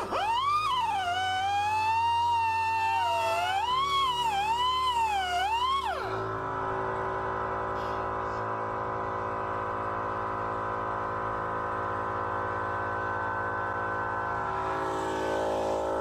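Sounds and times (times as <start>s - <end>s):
droning synth tones: 0.0s - 16.0s.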